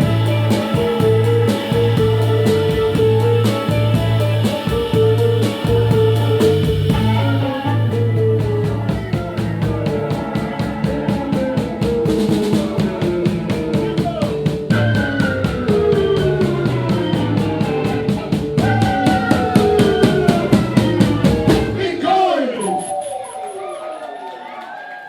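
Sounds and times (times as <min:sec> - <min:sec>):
organ lines sliding downward: 0:00.0 - 0:21.9
fast drumming and percussion: 0:00.0 - 0:22.1
live band playing: 0:00.0 - 0:23.6.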